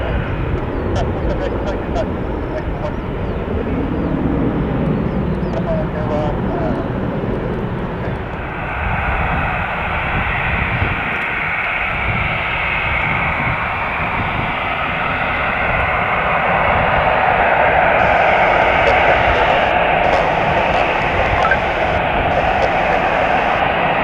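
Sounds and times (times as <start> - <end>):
jet airliner engines running: 0.0 - 24.0.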